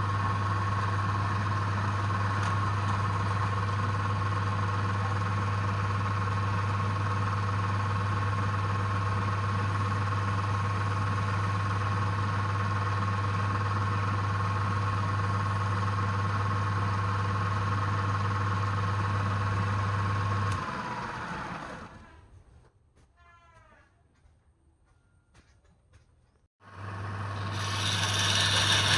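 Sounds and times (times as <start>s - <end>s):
lathe motor humming and whining: 0.0s - 22.0s, 26.7s - 28.9s.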